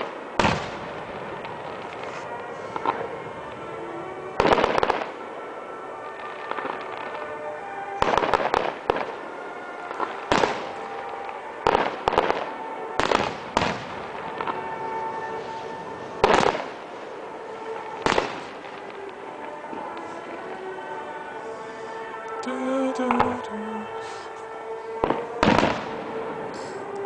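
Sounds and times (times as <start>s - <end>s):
fireworks bangs and crackles: 0.0s - 22.4s, 24.0s - 27.0s
music playing: 0.1s - 27.0s.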